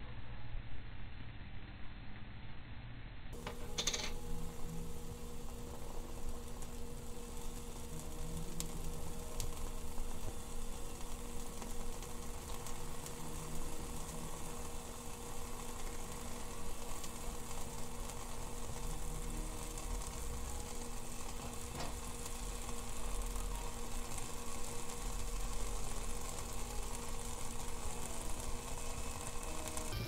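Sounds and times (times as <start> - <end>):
faint steady hum: 0.0 - 30.0
alcohol stove hissing: 3.3 - 30.0.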